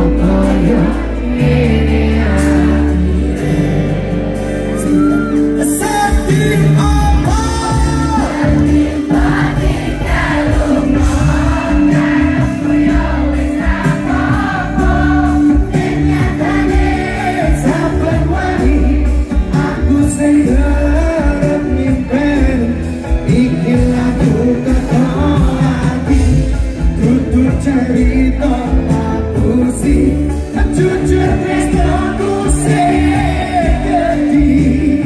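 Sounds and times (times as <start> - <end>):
crowd singing along: 0.0 - 35.0
live pop band: 0.0 - 35.0
man singing lead vocal: 0.0 - 35.0.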